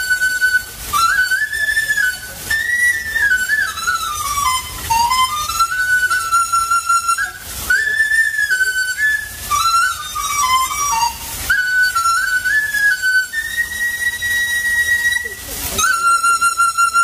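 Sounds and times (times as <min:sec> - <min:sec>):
bamboo flute melody: 0:00.0 - 0:17.0.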